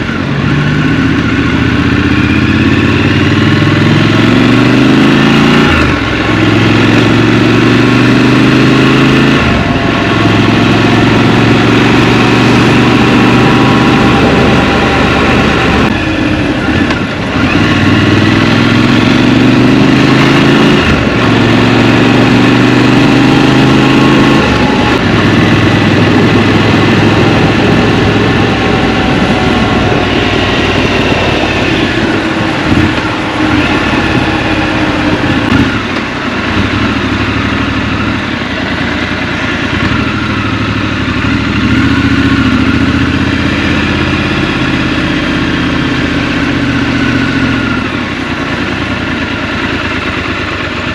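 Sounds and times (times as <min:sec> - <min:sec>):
motorcycle engine shifting gears: 0:00.0 - 0:50.9.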